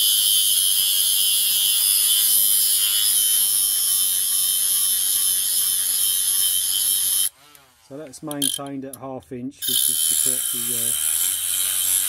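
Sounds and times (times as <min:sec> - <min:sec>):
rotary tool grinding hiss: 0:00.0 - 0:07.7, 0:09.6 - 0:12.0.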